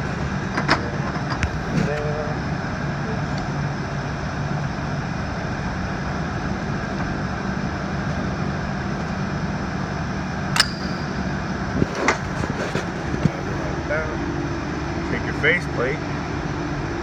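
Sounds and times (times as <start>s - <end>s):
low droning workshop hum: 0.0s - 17.0s.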